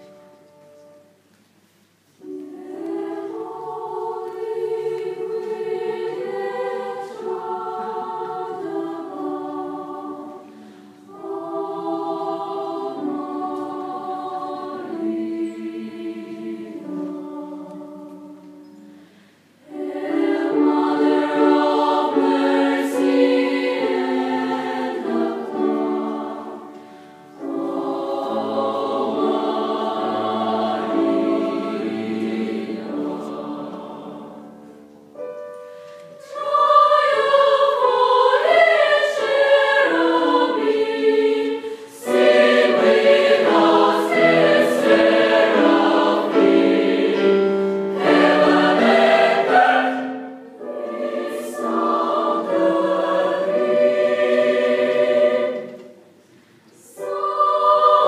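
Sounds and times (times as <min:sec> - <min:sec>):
choir singing: 0:00.0 - 0:01.1, 0:02.2 - 0:58.0.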